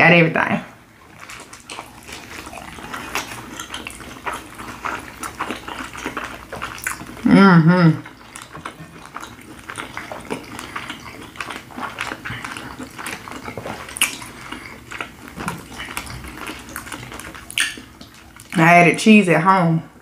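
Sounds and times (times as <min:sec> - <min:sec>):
close chewing with wet smacks: 0:01.0 - 0:07.3, 0:08.0 - 0:18.7.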